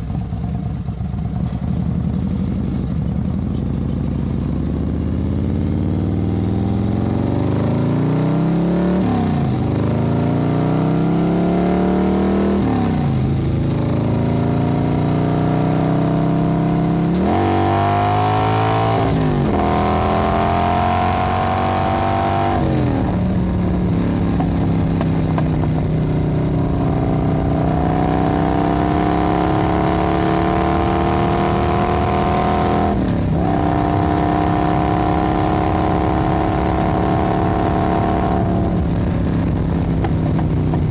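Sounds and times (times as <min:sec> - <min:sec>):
engine accelerating through gears: 0:04.9 - 0:40.9.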